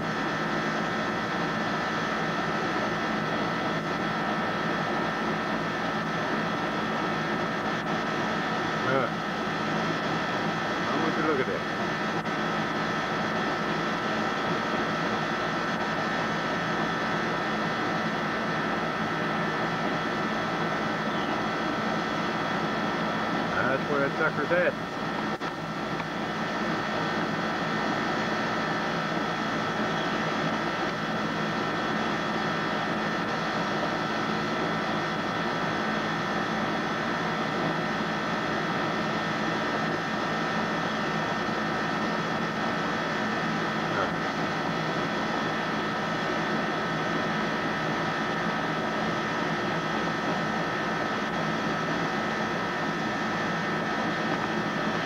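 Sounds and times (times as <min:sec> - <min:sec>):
machine hum and hiss: 0:00.0 - 0:55.0
whining tones: 0:00.0 - 0:55.0.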